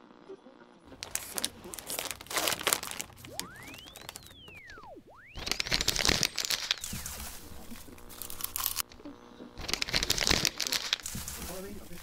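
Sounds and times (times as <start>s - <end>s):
paper crinkling and rustling: 0.9s - 4.8s, 5.4s - 9.0s, 9.6s - 12.0s.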